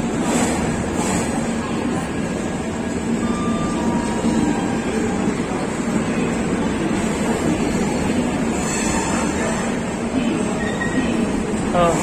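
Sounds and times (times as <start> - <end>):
train coaches rumbling: 0.0 - 12.0.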